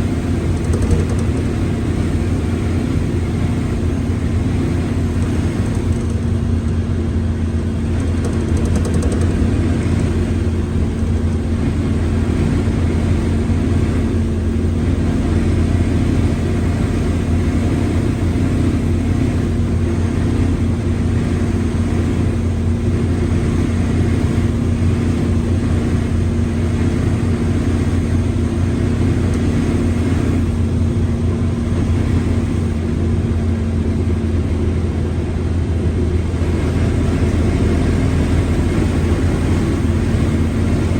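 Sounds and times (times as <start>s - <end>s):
droning gearbox tone: 0.0s - 33.4s
bus diesel engine running: 0.0s - 40.9s.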